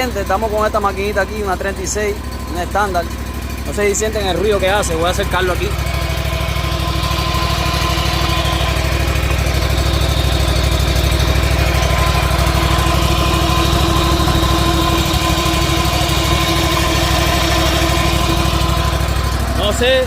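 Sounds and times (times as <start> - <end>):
drive pulley noise: 0.0 - 20.0
mower engine running: 0.0 - 20.0.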